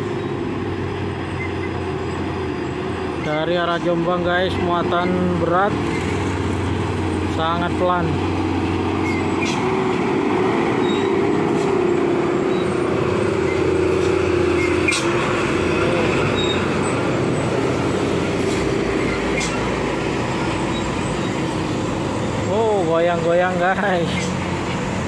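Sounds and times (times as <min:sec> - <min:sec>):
diesel truck engine labouring uphill: 0:00.0 - 0:25.0.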